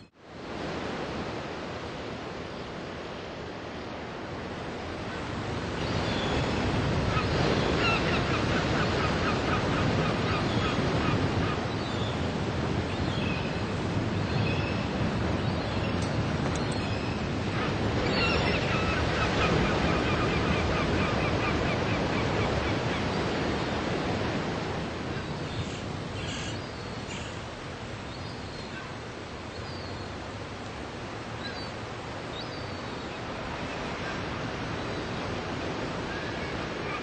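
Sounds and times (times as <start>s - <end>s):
waves breaking on sandy beach: 0.0s - 37.0s.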